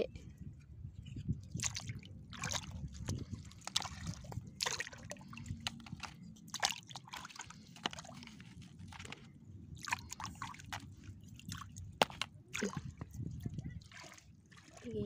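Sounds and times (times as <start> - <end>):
wading through shallow water: 1.3 - 15.0.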